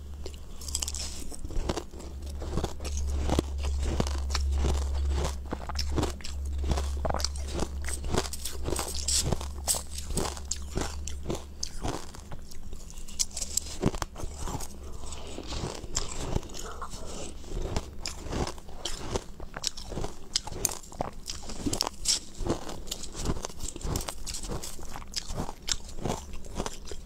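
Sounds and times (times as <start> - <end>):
chewing and crunching ice: 0.0 - 27.0.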